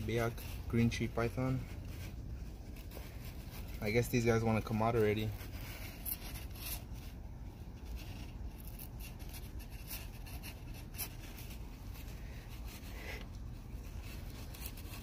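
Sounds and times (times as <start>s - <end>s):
cloth bag rustling and scratching: 0.0s - 15.0s
low steady hum: 0.0s - 15.0s.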